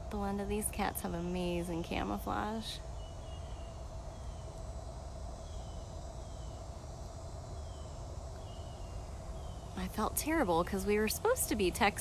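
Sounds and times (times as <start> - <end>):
low uneven rumble: 0.0 - 5.4, 6.0 - 12.0.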